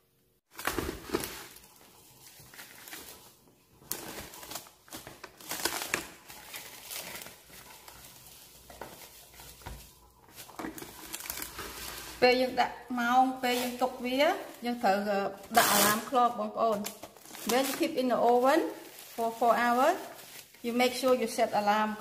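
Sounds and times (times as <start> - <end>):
plastic cling wrap crinkling: 0.5 - 22.0.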